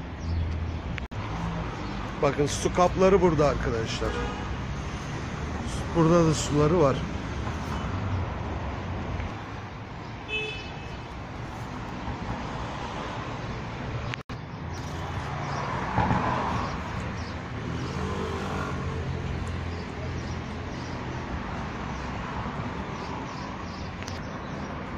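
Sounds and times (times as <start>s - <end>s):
road traffic rumble: 0.0s - 24.9s.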